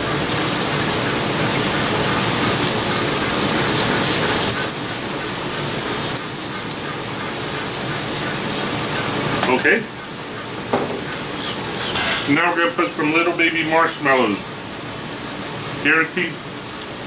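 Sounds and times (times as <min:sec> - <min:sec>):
meat sizzling on griddle: 0:00.0 - 0:17.0.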